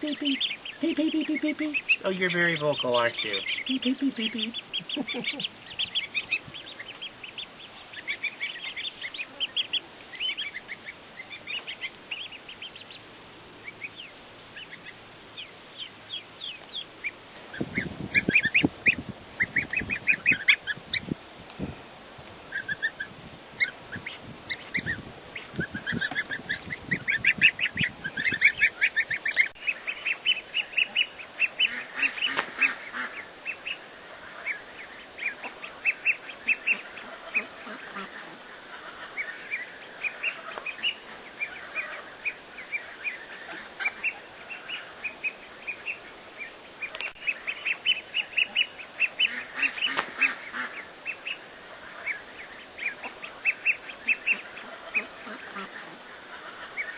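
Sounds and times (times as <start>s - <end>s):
chicks peeping: 0.0s - 21.6s, 22.5s - 56.9s.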